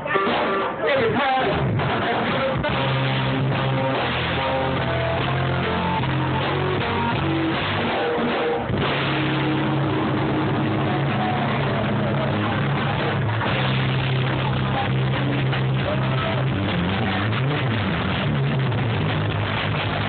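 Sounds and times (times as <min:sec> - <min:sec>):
drum kit: 0:00.0 - 0:20.0
electric bass: 0:00.0 - 0:20.0
electric guitar: 0:00.0 - 0:20.0.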